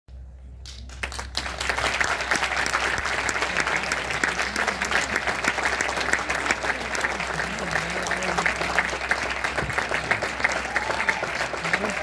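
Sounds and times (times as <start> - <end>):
audience applauding: 0.9 - 12.0.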